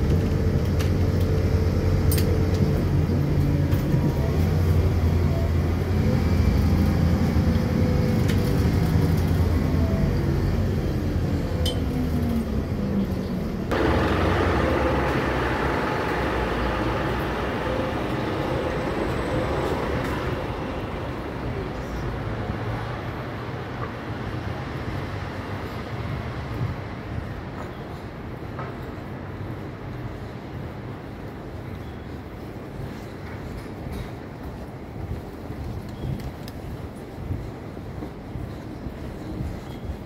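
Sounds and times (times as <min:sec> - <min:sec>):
outdoor street noise: 0:00.0 - 0:40.0
transit vehicle rumble: 0:00.0 - 0:40.0.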